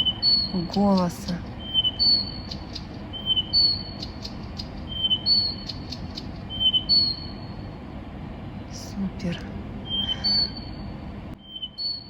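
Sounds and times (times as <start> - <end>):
songbird singing: 0.0 - 7.9, 8.6 - 12.0.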